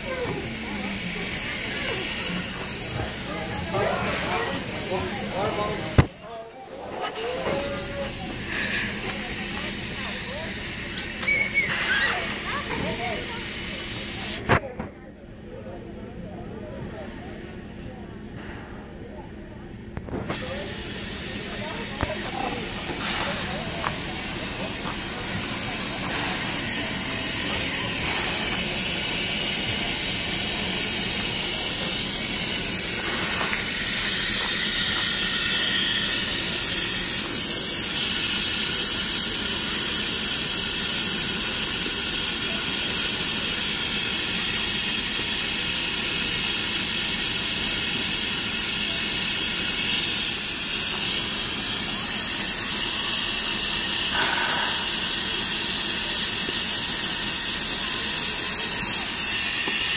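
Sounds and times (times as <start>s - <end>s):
steam hissing from vents: 0.0s - 14.6s, 20.0s - 59.9s.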